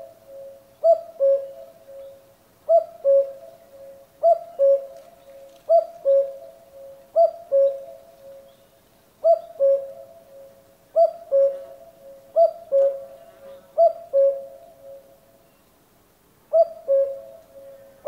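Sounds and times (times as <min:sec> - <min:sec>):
cuckoo calling: 0:00.0 - 0:15.2, 0:16.5 - 0:18.0.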